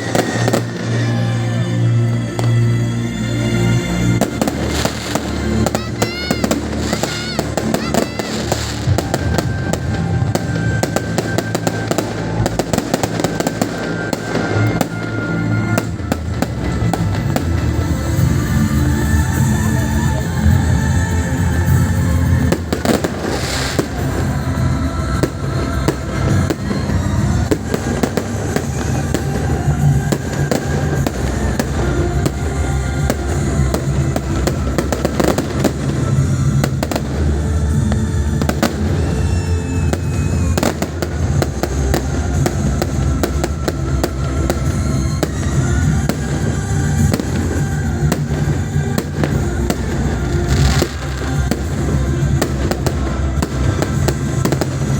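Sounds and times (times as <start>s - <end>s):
fireworks bangs and crackles: 0.0s - 54.9s
music playing: 0.0s - 54.9s.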